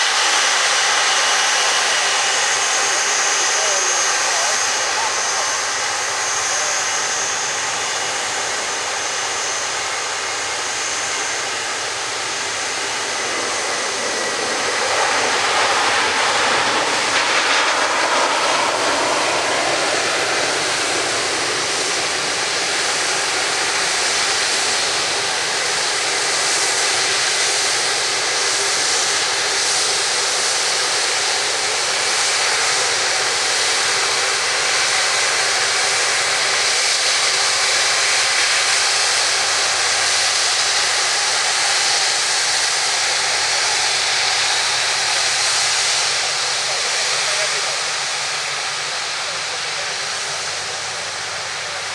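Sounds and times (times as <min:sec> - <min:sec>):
jet engines rushing hiss: 0:00.0 - 0:51.9.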